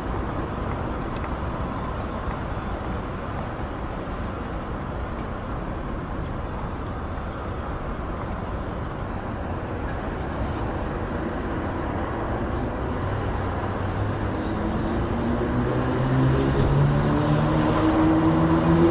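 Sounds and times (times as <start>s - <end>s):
distant motorway traffic: 0.0s - 18.9s.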